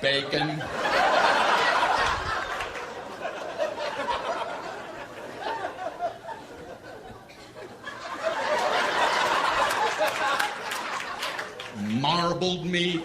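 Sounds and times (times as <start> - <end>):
audience laughing: 0.1 - 11.8.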